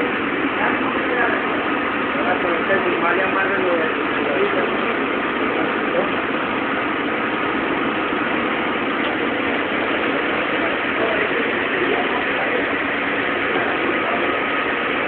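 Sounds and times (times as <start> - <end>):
machinery droning: 0.0 - 15.0.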